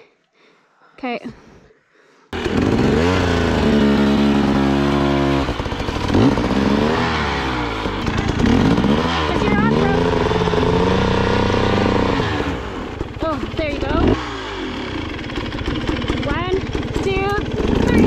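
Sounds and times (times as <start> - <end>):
dirt bike engine revving: 2.4 - 18.0.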